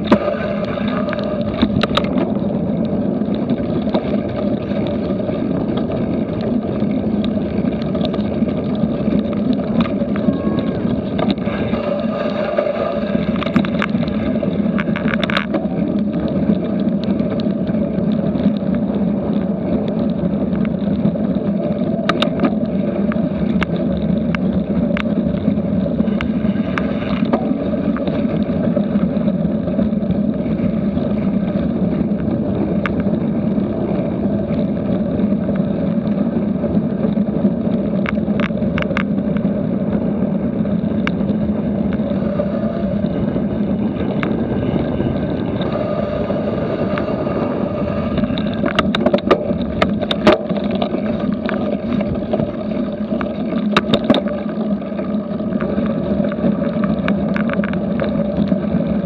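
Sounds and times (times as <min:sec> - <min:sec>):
bike rattling clicks and knocks: 0:00.0 - 0:45.9, 0:48.0 - 0:59.0
bicycle tyres rolling on gravel: 0:00.0 - 0:59.0
wind on microphone: 0:00.0 - 0:59.0.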